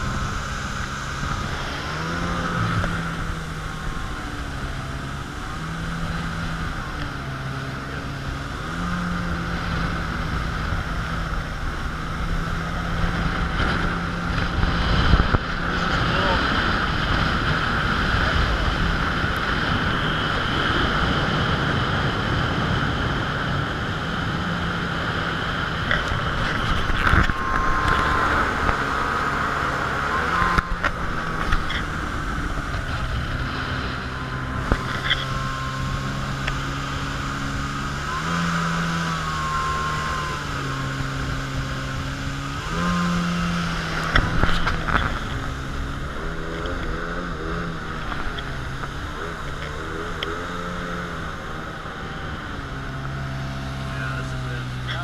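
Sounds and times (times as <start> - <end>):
jet ski engine running: 0.0 - 55.0
water noise: 0.0 - 55.0
wind: 0.0 - 55.0.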